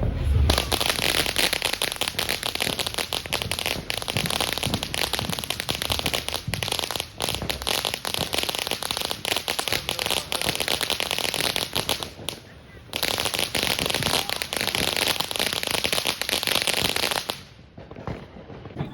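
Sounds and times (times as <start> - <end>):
firework fountain crackling: 0.0 - 18.9.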